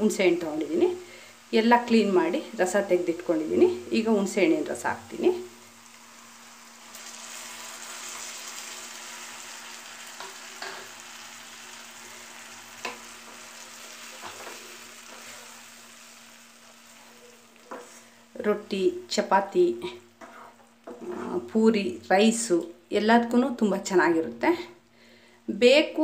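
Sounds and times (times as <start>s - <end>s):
onions sizzling in hot oil: 0.0s - 21.7s.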